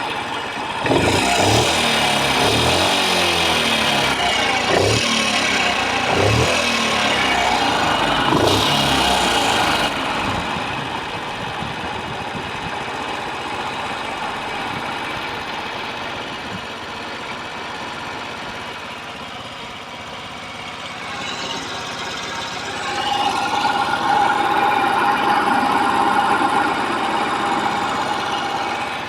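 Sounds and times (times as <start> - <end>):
motorcycle engine knocking clatter: 0.0 - 29.0.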